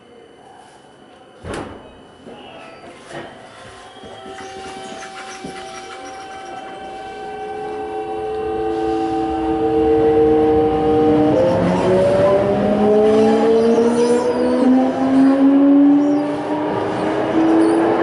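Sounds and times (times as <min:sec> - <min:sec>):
train inverter and motors whining: 0:00.0 - 0:18.0.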